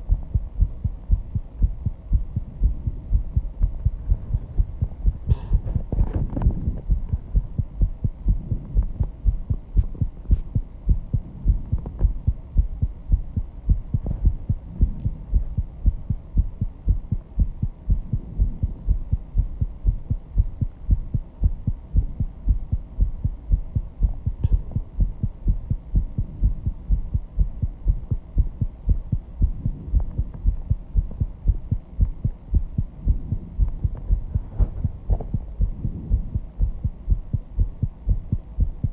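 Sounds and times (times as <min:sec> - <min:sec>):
fast heartbeat thumps: 0:00.0 - 0:38.9.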